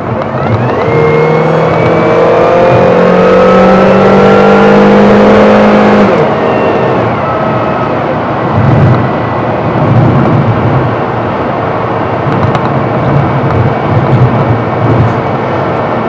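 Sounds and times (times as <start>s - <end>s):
car engine inside cabin: 0.0s - 16.0s
road noise: 0.0s - 16.0s.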